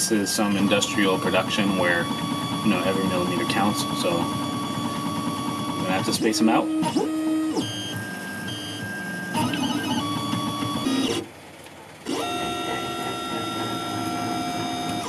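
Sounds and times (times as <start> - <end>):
stepper motors whining: 0.0 - 11.3, 12.0 - 15.0.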